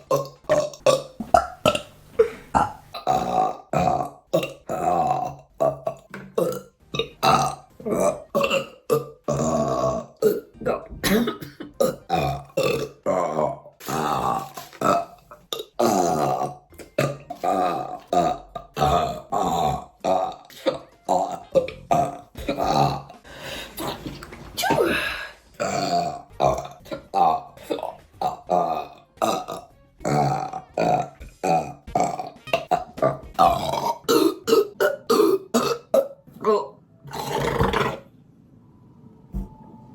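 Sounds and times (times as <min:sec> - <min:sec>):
woman burping: 0:00.0 - 0:23.2, 0:23.8 - 0:38.0.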